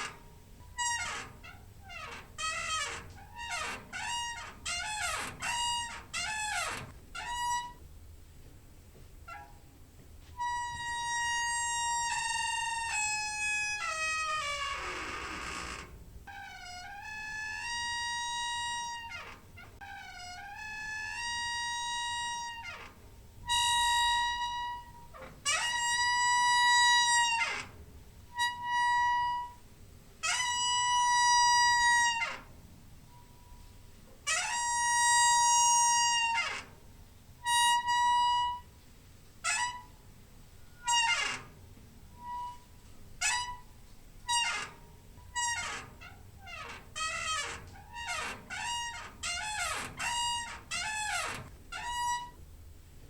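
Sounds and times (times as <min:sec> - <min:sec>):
door hinge squeaking: 0:00.0 - 0:07.9, 0:09.2 - 0:09.7, 0:10.4 - 0:29.6, 0:30.2 - 0:32.5, 0:33.1 - 0:36.8, 0:37.4 - 0:38.7, 0:39.4 - 0:40.0, 0:40.6 - 0:52.4.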